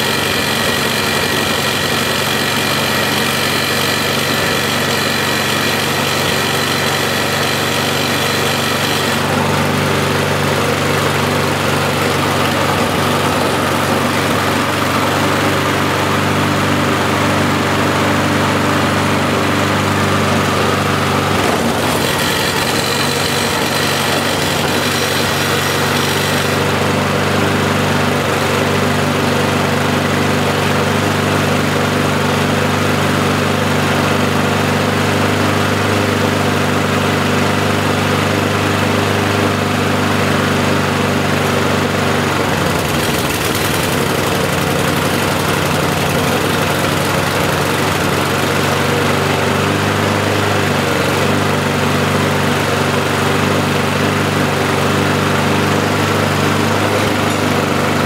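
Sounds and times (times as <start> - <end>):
lawnmower engine running: 0.0 - 58.0.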